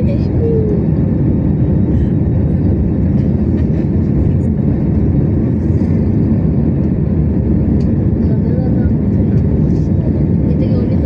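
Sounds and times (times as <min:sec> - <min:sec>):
aircraft cabin low rumble: 0:00.0 - 0:11.0.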